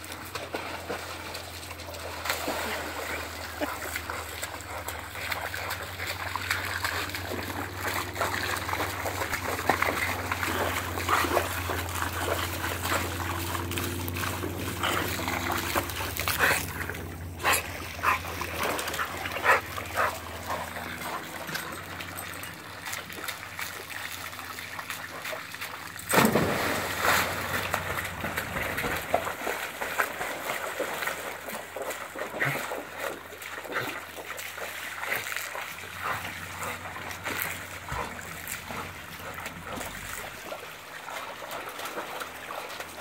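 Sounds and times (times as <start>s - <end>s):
dog splashing in water: 0.0s - 43.0s
hose water trickling: 0.0s - 43.0s.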